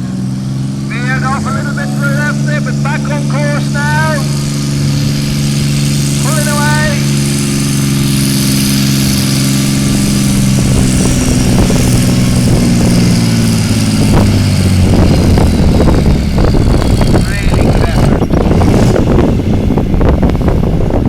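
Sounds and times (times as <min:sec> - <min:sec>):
tractor engine under heavy load: 0:00.0 - 0:21.0.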